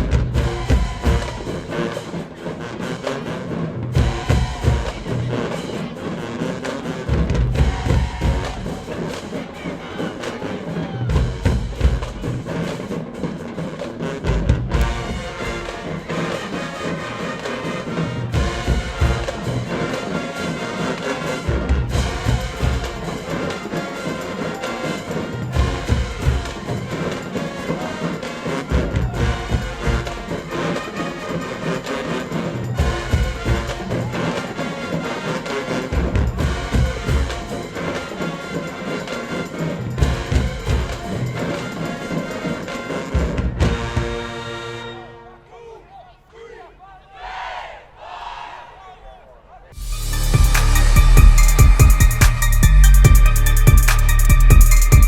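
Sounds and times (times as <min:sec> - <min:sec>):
marching band playing: 0:00.0 - 0:45.7, 0:49.8 - 0:55.0.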